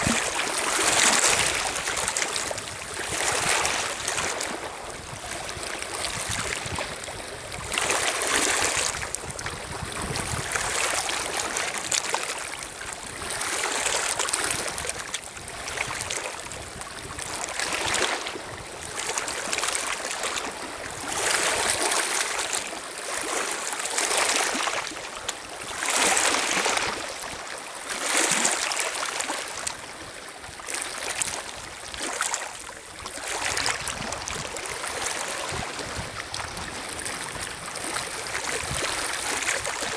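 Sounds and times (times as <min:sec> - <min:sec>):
waves lapping on pebbles: 0:00.0 - 0:39.9.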